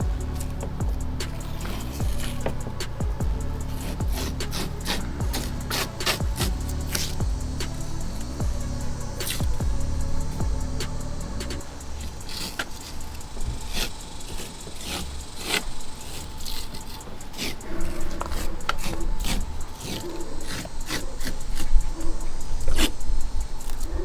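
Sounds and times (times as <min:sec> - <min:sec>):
rubbing and scraping handling noises: 0:00.0 - 0:24.0.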